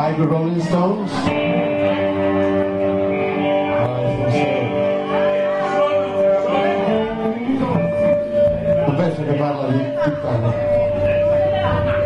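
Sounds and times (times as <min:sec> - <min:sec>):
guitars ringing held chords: 0:00.0 - 0:12.0
live band playing: 0:00.0 - 0:12.0.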